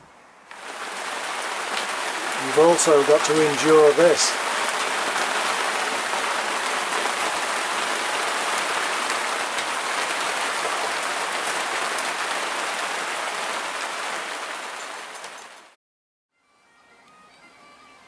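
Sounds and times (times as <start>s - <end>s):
heavy rain falling: 0.5s - 15.8s.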